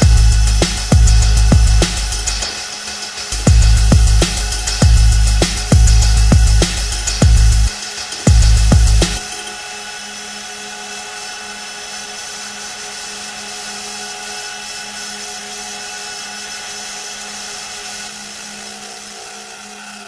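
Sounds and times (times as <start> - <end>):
machine-like drone: 0.0 - 20.0.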